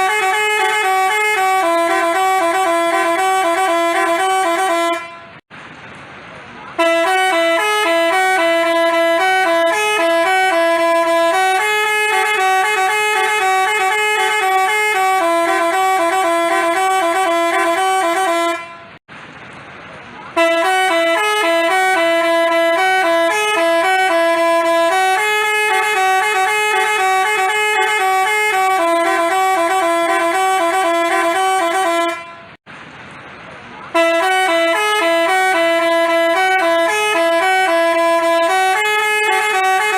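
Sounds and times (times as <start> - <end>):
musical horn playing a tune: 0.0 - 5.4, 6.8 - 19.0, 20.4 - 32.6, 33.9 - 39.9.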